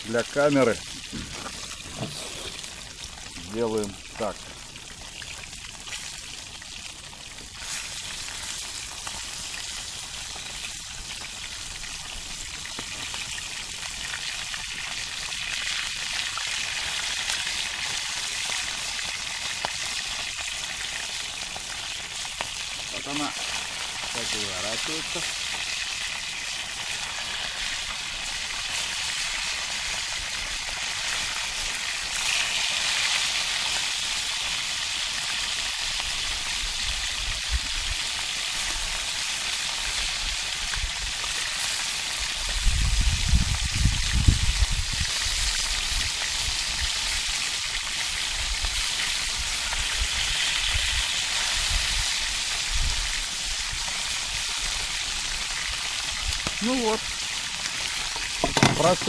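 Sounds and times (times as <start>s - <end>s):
fish sizzling in oil: 0.0s - 59.0s.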